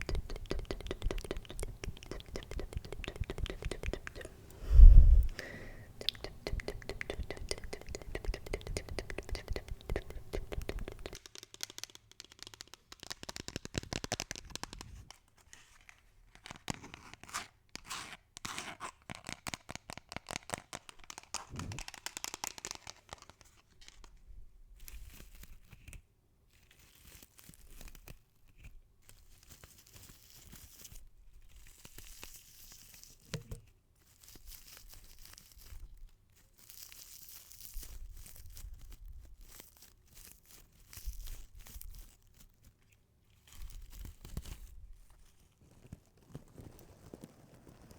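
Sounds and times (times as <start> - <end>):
crinkling and crackling by hand: 0.0 - 4.6, 5.2 - 47.9.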